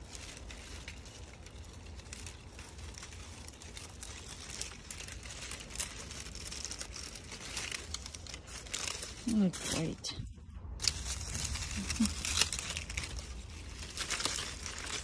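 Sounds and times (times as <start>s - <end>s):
grape cluster rustling and crinkling: 0.0s - 15.0s
steady low rumble: 0.0s - 15.0s.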